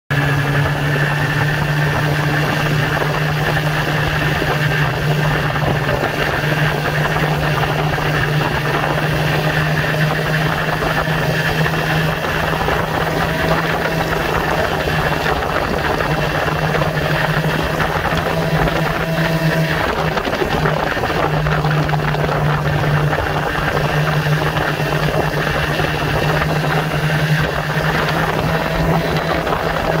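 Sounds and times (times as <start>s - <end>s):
snowmobile engine running: 0.1s - 30.0s.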